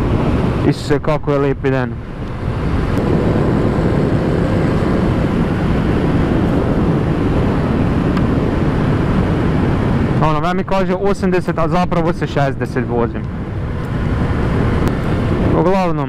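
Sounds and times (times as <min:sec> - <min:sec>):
wind rush on microphone: 0:00.0 - 0:16.0.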